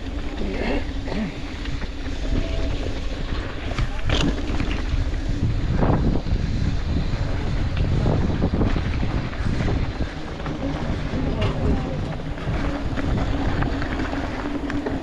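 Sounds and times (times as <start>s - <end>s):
skis sliding over snow: 0.0s - 15.0s
wind buffeting microphone: 0.0s - 15.0s.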